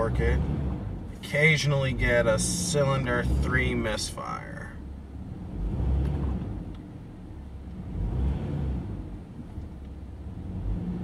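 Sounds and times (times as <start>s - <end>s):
engine rumbling roughly: 0.0s - 11.0s.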